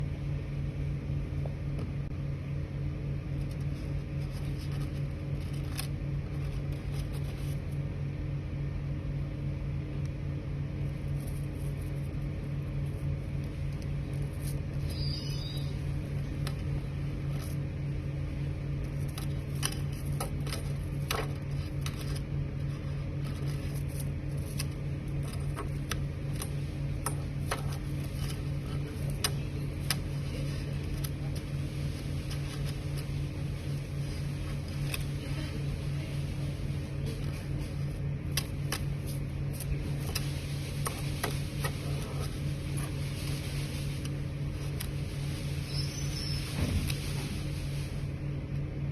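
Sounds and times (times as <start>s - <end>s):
printer fan and motor hum: 0.0s - 48.9s.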